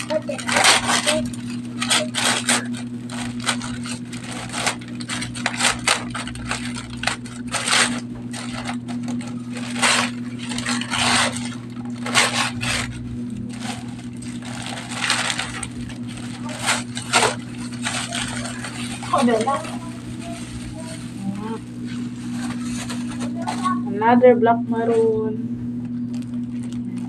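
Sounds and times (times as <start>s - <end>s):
packaging rustling and crinkling: 0.0s - 23.8s, 25.8s - 27.0s
low hum: 0.0s - 27.0s.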